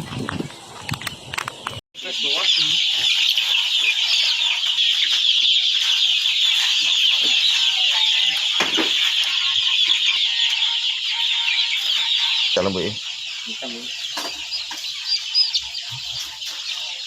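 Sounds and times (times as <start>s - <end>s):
chickens calling: 0.0s - 17.0s.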